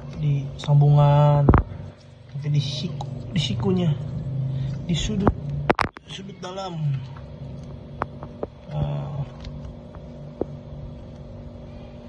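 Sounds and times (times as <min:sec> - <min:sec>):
electric water pump humming: 0:00.0 - 0:12.0.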